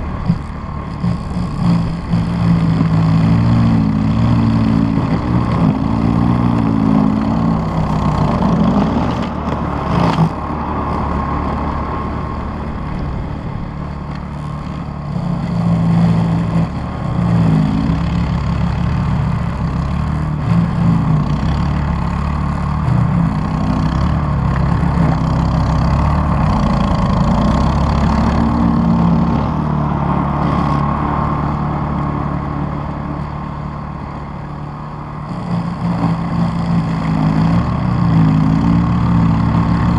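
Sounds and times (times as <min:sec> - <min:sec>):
snowblower engine under load: 0:00.0 - 0:39.9.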